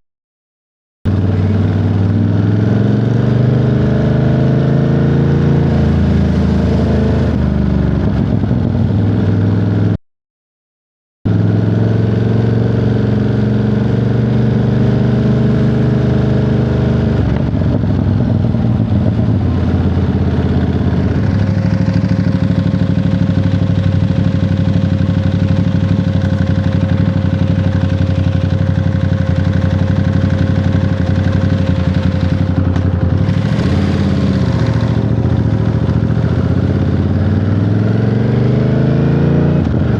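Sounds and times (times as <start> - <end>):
motorcycle engine running: 1.1 - 10.0, 11.3 - 39.9.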